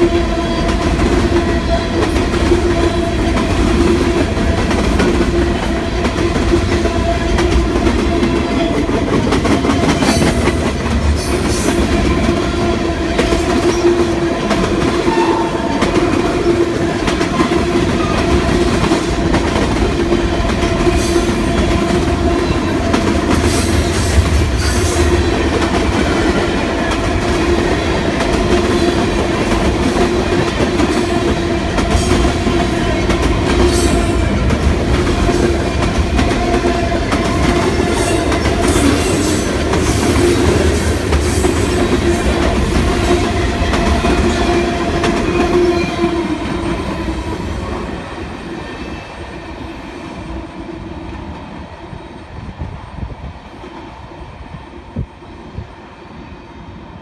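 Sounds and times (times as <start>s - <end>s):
freight train wheels clattering: 0.0s - 48.9s.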